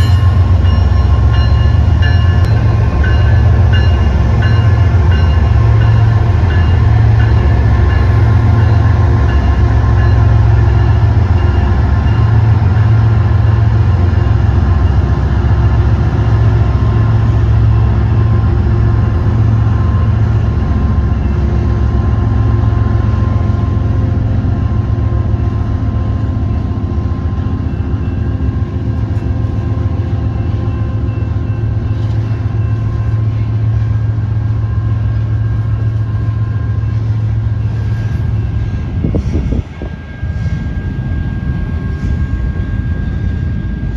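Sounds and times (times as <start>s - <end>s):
diesel locomotive engine running: 0.0s - 43.9s.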